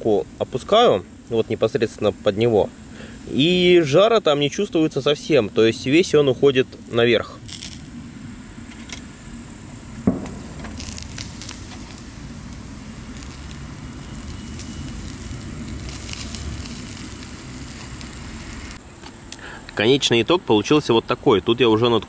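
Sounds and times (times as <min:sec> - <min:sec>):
ribs sizzling on grill: 0:00.0 - 0:19.6
crackles: 0:00.0 - 0:19.9.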